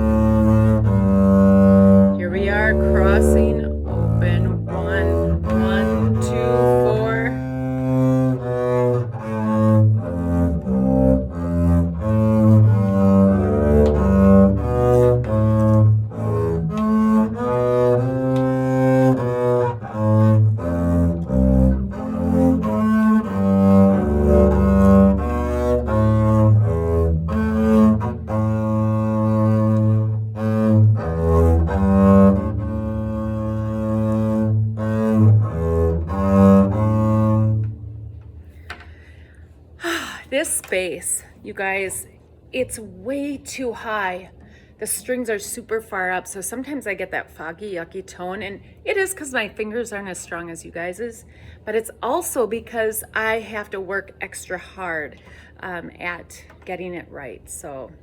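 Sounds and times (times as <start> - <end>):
bowed double bass notes: 0.0 - 46.9.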